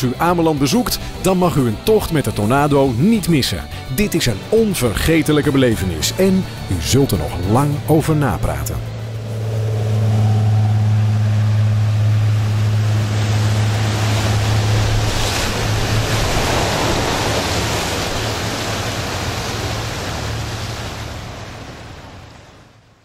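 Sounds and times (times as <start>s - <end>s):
powerboat engines droning: 0.0s - 23.0s
rush of waves and spray: 3.6s - 23.0s
wind: 4.4s - 23.0s.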